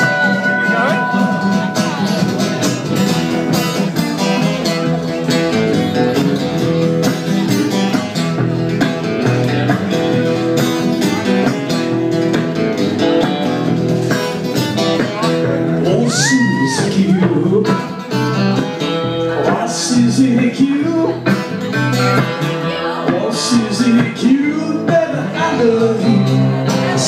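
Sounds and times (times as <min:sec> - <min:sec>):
blues band playing: 0:00.0 - 0:27.0.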